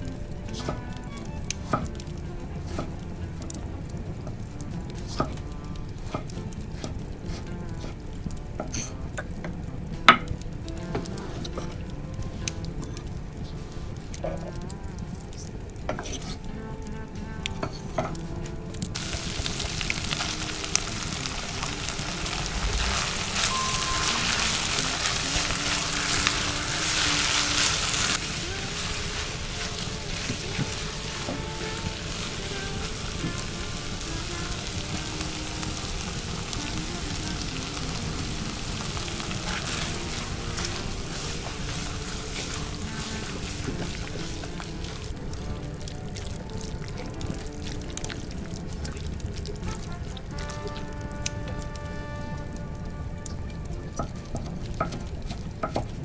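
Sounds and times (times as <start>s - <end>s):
faint background music: 0.0s - 56.0s
loud frying sizzle: 0.0s - 56.0s
quiet melody of held notes: 0.0s - 56.0s
steady hiss: 0.0s - 56.0s.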